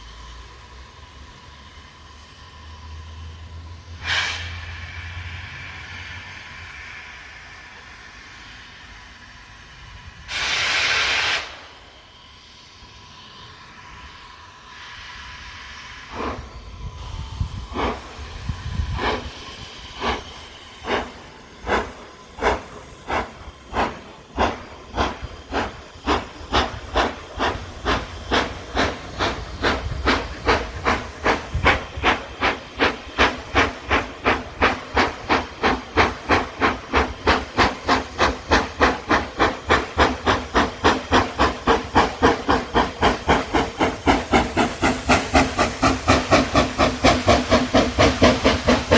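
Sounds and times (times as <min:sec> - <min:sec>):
steam hissing: 0:00.0 - 0:48.9
steam locomotive exhaust beats: 0:00.0 - 0:48.9.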